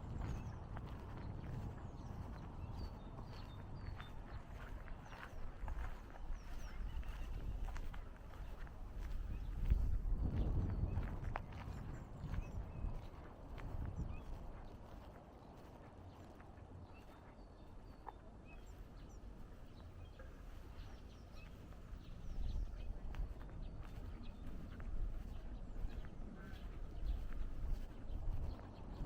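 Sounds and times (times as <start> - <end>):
footsteps along a path: 0.0 - 29.0
small birds chirping: 0.0 - 29.0.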